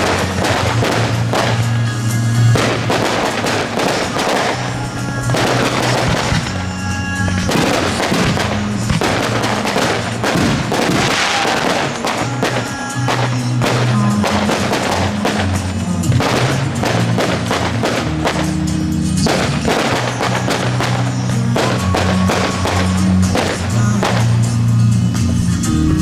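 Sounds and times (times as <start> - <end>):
fireworks bangs and crackles: 0.0 - 26.0
loud music with bass: 0.0 - 26.0.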